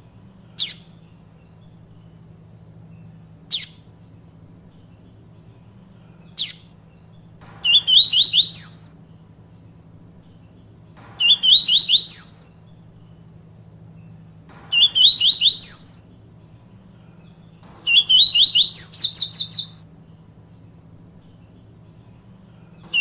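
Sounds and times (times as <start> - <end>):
bird whistling song: 0.5 - 20.6, 21.2 - 23.0.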